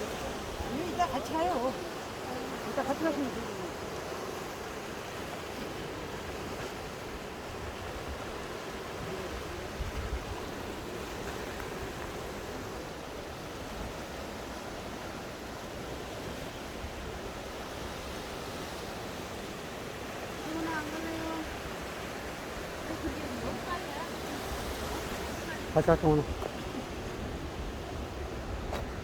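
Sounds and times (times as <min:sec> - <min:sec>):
sea surf washing on shore: 0:00.0 - 0:29.0.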